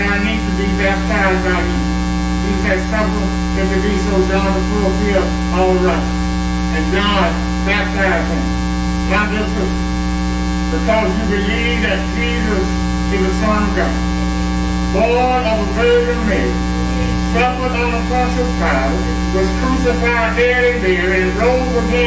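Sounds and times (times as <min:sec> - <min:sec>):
loud electrical mains hum: 0:00.0 - 0:22.0.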